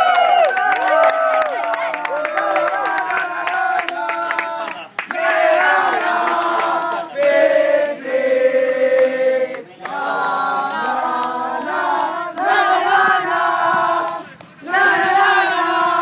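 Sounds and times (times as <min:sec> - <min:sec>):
football supporters chanting: 0:02.4 - 0:16.0.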